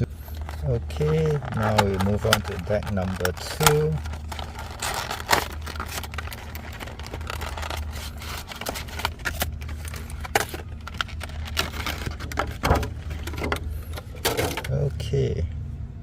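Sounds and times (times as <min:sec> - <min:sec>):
cards being handled: 0:00.0 - 0:14.2
plastic wrapping crinkling: 0:00.0 - 0:14.5
steady low hum: 0:00.0 - 0:16.0.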